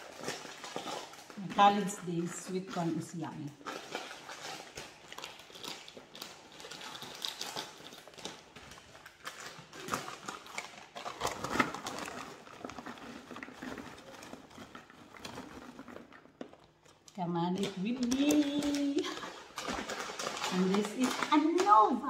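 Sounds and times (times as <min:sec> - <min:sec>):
plastic snack bag crinkling: 0:00.0 - 0:22.0
snack balls rattling into bowl: 0:00.0 - 0:22.0.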